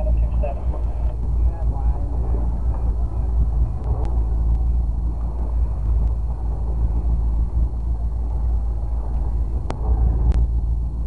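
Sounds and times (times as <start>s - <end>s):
boat motor rumble: 0.0s - 11.0s
water washing past hull: 0.0s - 11.0s
wind buffeting microphone: 0.0s - 11.0s.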